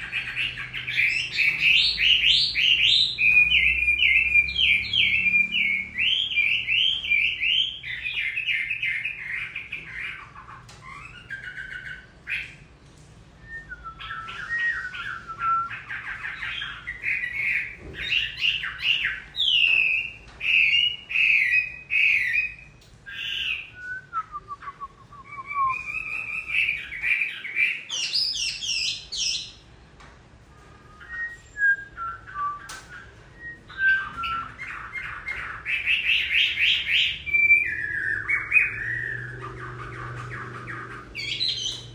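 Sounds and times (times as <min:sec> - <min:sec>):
bird singing trills and whistles: 0:00.0 - 0:12.7, 0:13.4 - 0:29.6, 0:30.6 - 0:41.9.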